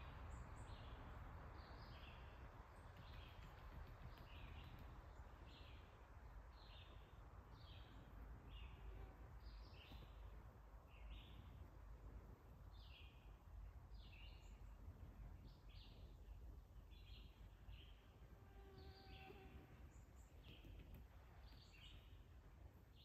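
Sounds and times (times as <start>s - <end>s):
bird chirping: 0.0s - 11.8s, 12.7s - 23.0s.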